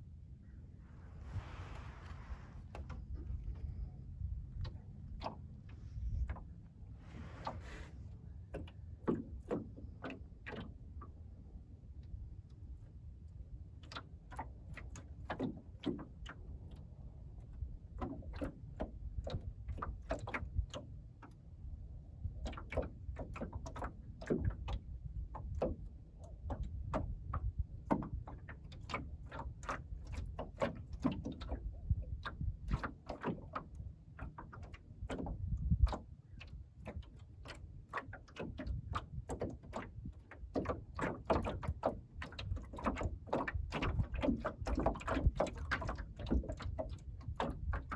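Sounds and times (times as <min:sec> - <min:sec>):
low steady rumble: 0:00.0 - 0:47.9
wavelets lapping against wooden hull: 0:00.7 - 0:47.9.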